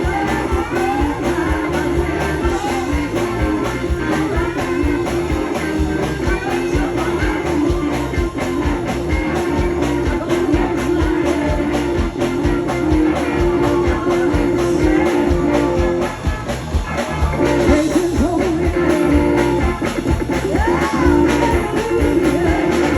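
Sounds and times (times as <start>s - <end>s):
person singing: 0.0s - 16.5s, 17.4s - 22.9s
drums beating: 0.0s - 22.9s.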